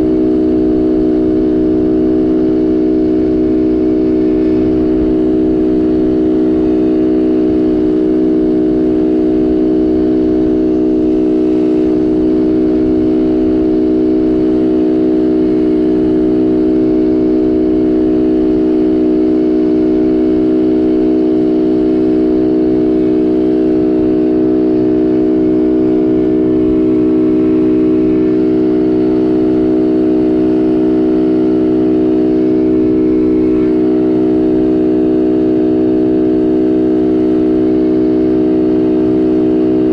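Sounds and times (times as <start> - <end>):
quad engine droning: 0.0 - 39.9.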